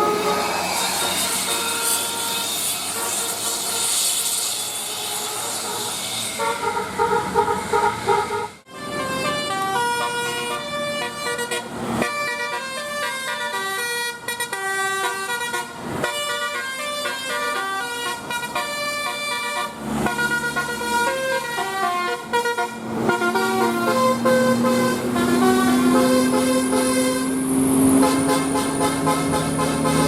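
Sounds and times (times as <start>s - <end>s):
bus multi-tone air horn melody: 0.0s - 30.0s.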